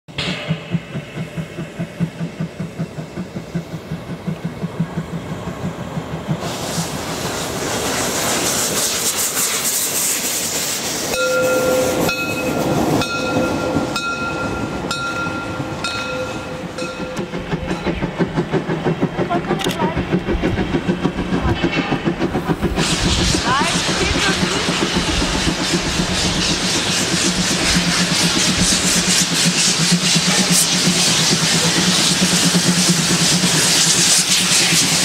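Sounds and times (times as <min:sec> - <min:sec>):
steam locomotive chuffing: 0:00.1 - 0:35.0
loud steam hiss: 0:06.4 - 0:35.0.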